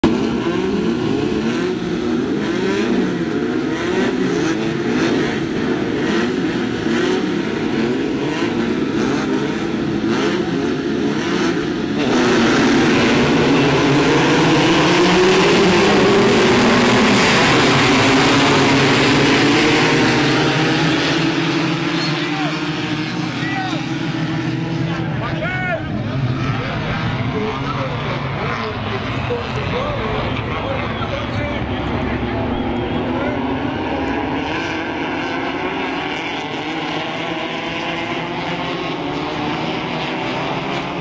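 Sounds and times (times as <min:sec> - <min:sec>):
buggy engines revving: 0:00.0 - 0:41.0.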